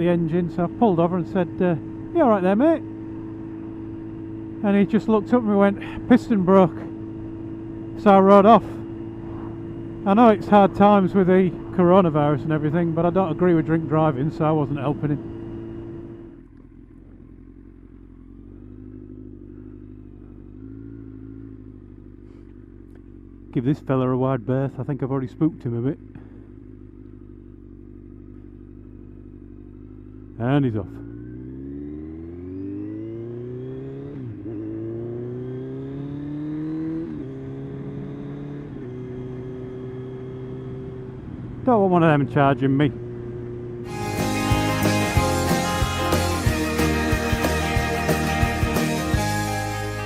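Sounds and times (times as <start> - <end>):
motorcycle engine at low revs: 0.0 - 44.2.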